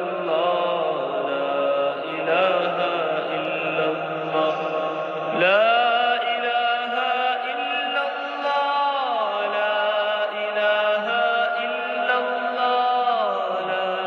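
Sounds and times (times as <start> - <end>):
chanted vocal music: 0.0 - 14.0.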